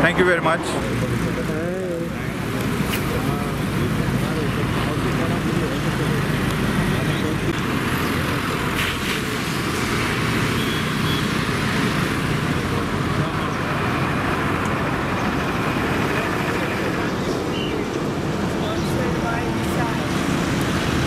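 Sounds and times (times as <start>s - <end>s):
cars passing: 0.0s - 21.0s
motor scooters passing: 0.0s - 21.0s.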